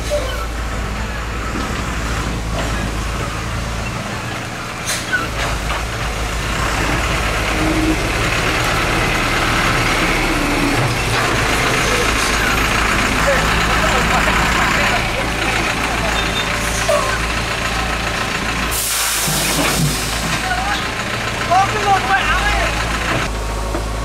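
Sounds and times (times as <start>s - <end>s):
diesel machinery hum: 0.0s - 24.0s.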